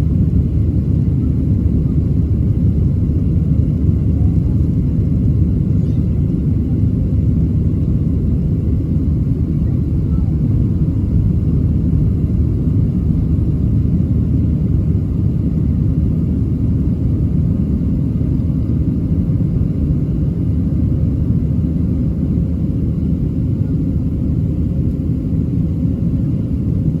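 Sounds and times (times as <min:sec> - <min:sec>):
jet engine rumble in cabin: 0:00.0 - 0:27.0.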